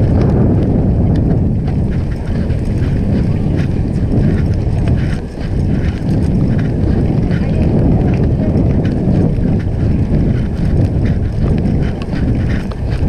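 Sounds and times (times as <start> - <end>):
bicycle ticks and rattles: 0.0 - 13.0
wind buffeting microphone: 0.0 - 13.0.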